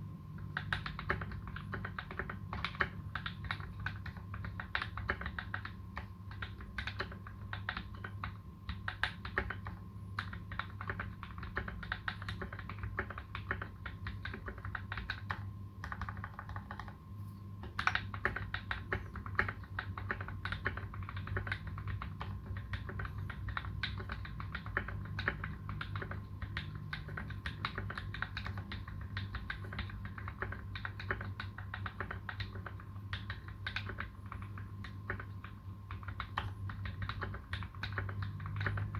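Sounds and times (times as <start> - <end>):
mechanical keyboard typing: 0.4 - 17.0, 17.6 - 38.9.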